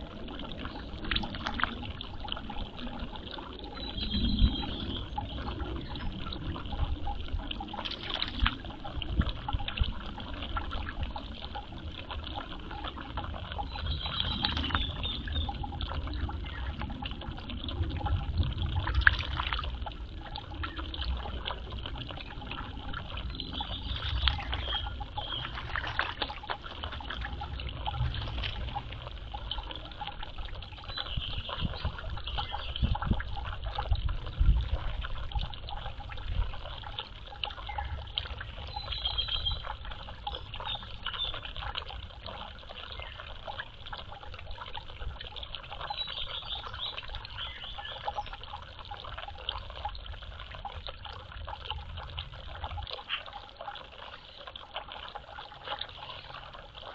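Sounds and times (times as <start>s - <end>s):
water splashing: 0.0s - 56.9s
water trickling: 0.0s - 56.9s.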